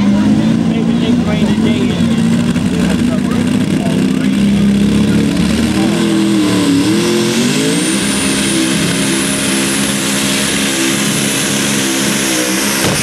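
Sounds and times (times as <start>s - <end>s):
high turbo whine: 0.0s - 13.0s
tractor engine at full throttle: 0.0s - 13.0s.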